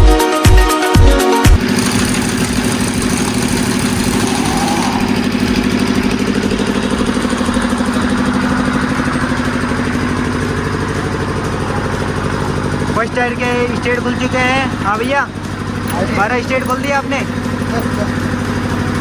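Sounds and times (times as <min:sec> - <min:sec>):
engine idling: 0:01.6 - 0:19.0.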